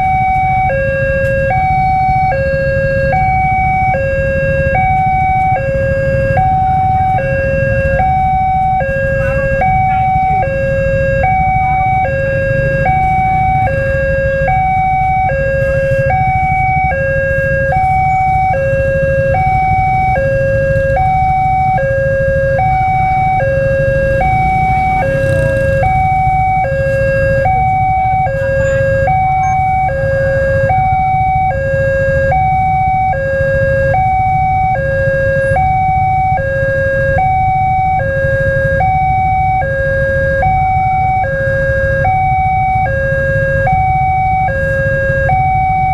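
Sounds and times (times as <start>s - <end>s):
two-tone crossing alarm: 0.0s - 45.9s.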